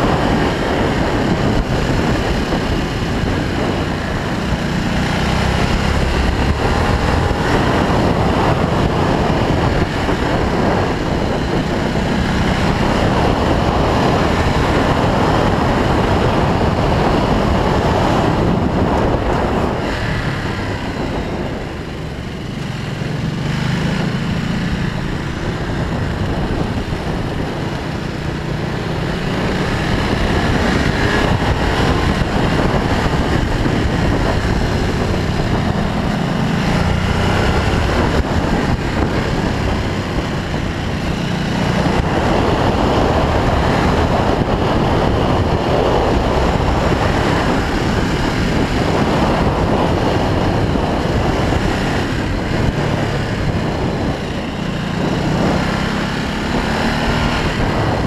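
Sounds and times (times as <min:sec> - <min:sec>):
motorcycle engine pulling: 0:00.0 - 0:58.0
wind rush on microphone: 0:00.0 - 0:58.0.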